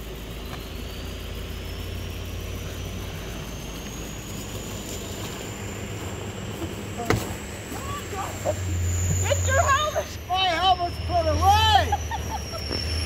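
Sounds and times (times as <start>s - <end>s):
engine idling with low rumble: 0.0s - 13.0s
thin high whine: 0.0s - 13.0s.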